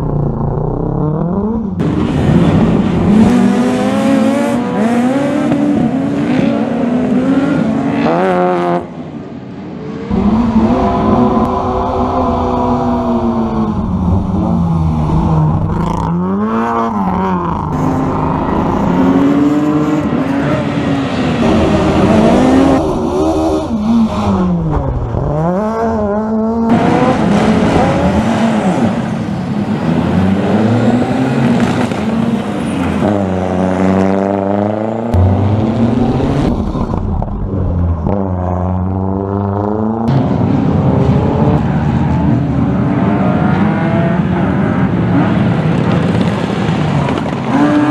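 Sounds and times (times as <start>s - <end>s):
rally car engine at high revs: 0.0s - 9.0s, 10.1s - 47.9s.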